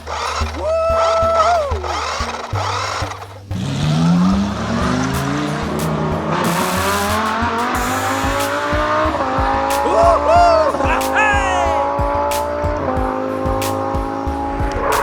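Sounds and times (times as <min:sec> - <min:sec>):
background music: 0:00.0 - 0:15.0
car engine accelerating: 0:00.0 - 0:15.0.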